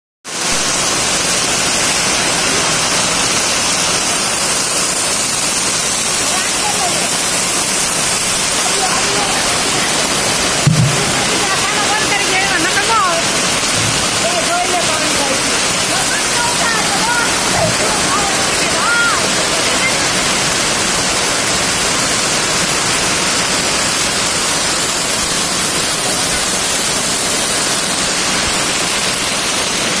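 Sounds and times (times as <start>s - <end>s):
heavy rain on pavement: 0.2s - 30.0s.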